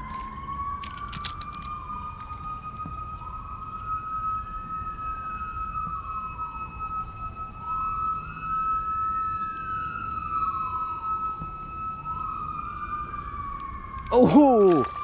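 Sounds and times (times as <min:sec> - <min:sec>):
emergency siren wailing: 0:00.0 - 0:15.0
steady siren tone: 0:00.0 - 0:15.0.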